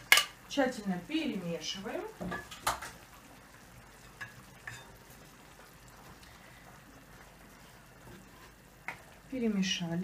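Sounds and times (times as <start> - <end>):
faint sizzle in frying pan: 0.0 - 10.0.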